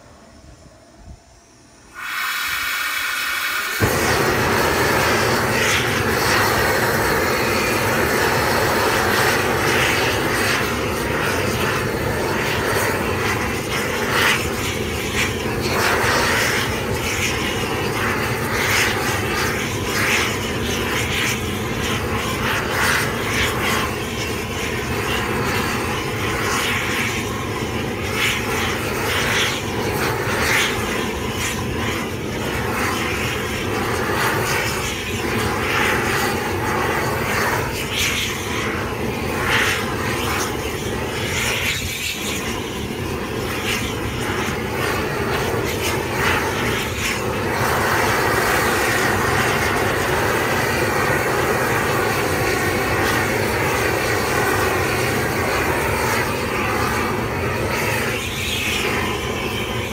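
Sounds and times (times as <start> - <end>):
torch flame bursting alight: 0.0 - 59.9
torch flame roaring: 0.0 - 59.9.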